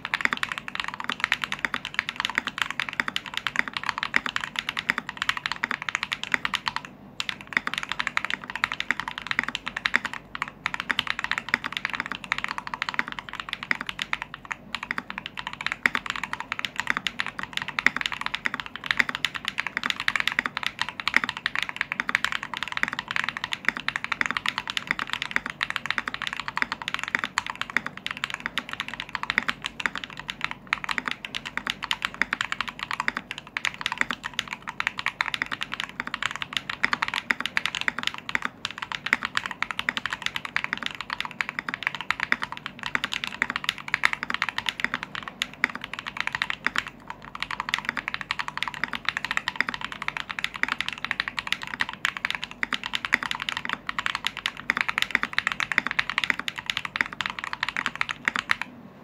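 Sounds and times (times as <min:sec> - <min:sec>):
fast mechanical keyboard typing: 0:00.0 - 0:58.7.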